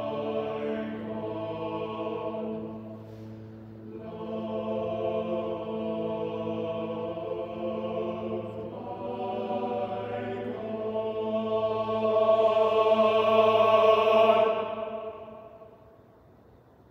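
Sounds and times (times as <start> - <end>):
men's choir singing: 0.0 - 15.8
hall echo: 0.0 - 16.8.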